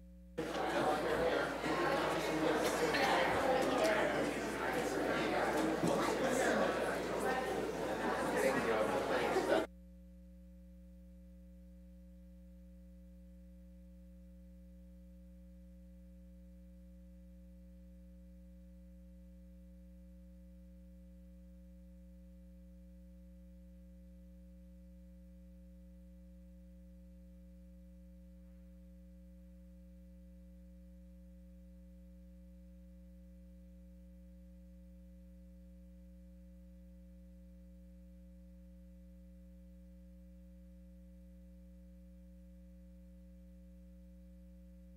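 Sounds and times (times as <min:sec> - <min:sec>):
faint mains hum: 0:00.0 - 0:44.9.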